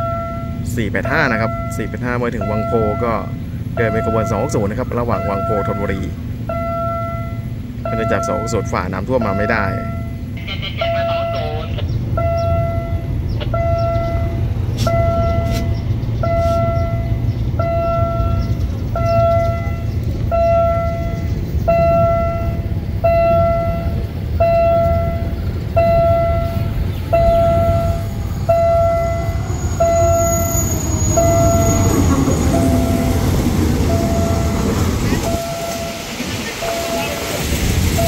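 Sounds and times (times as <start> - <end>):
electronic warning bell ringing: 0.0 - 15.5, 16.2 - 37.4
diesel locomotive rumble: 0.0 - 38.0.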